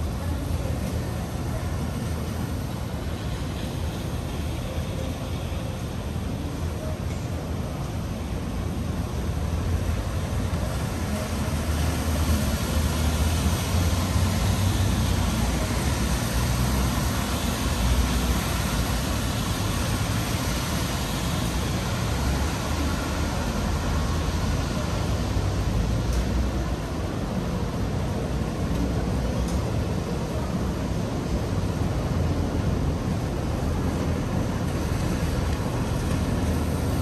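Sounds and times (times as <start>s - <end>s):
traffic hiss: 0.0s - 37.0s.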